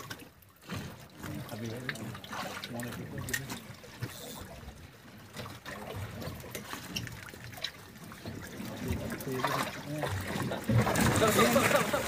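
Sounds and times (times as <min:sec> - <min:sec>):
water trickling and sloshing: 0:00.0 - 0:12.0.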